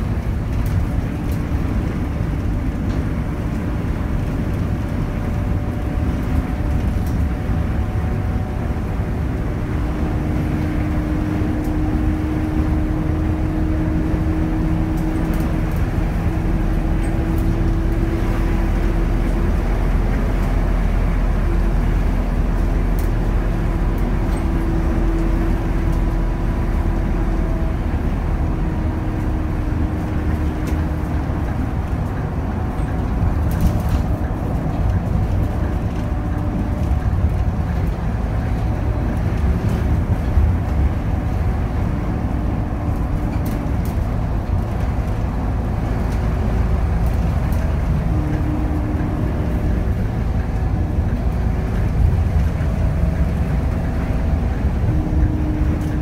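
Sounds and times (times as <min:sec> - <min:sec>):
diesel bus engine drone: 0:00.0 - 0:56.0
road and tyre noise: 0:00.0 - 0:56.0.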